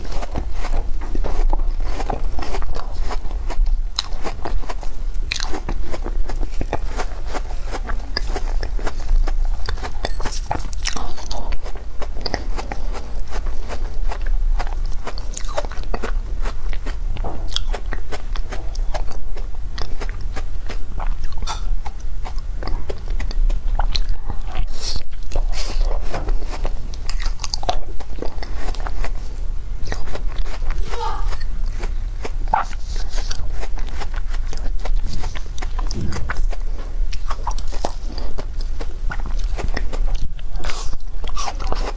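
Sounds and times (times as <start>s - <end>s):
crunching and chewing ice: 0.0s - 41.9s.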